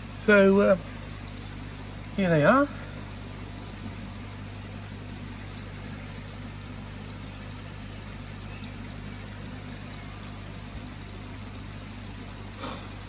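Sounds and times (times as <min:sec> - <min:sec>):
pump humming: 0:00.0 - 0:13.0
water rushing into tank: 0:00.0 - 0:13.0.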